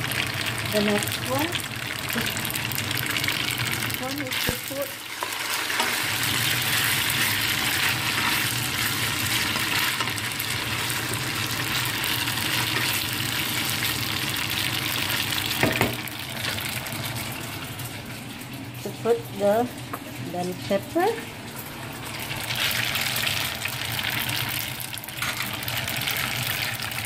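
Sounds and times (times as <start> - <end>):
food sizzling in a pan: 0.0 - 18.1, 18.8 - 27.0.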